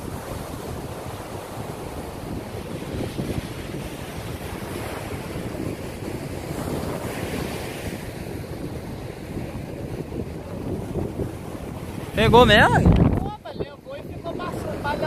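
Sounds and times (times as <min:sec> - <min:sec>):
ocean surf breaking: 0:00.0 - 0:15.0
wind noise on microphone: 0:00.0 - 0:15.0.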